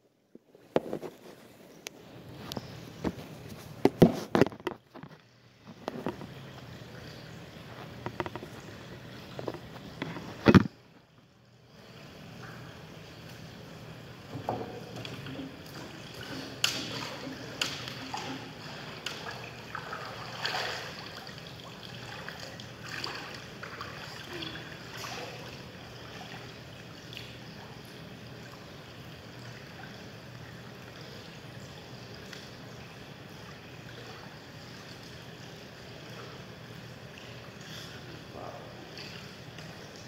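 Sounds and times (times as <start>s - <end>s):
pool water splashing: 0.8s - 40.0s
water lapping: 1.1s - 40.0s.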